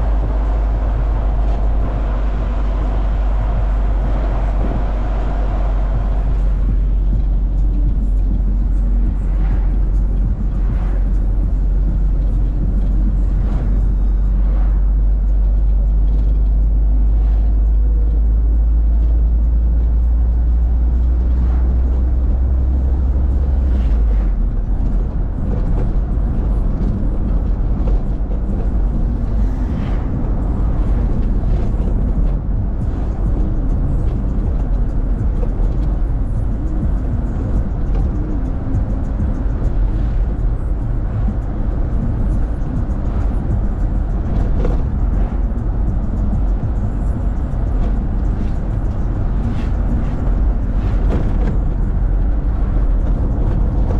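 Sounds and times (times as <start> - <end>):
engine and road noise rumble: 0.0 - 53.9.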